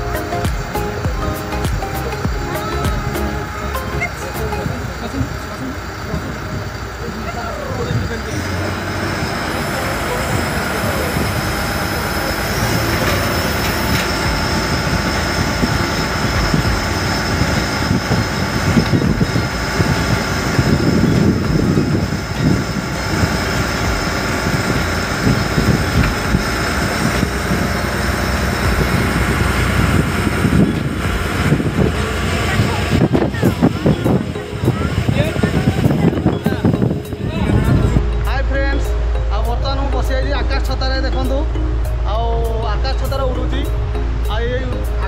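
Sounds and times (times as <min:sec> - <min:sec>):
speedboat engine running: 0:00.0 - 0:45.0
wind buffeting microphone: 0:00.0 - 0:45.0.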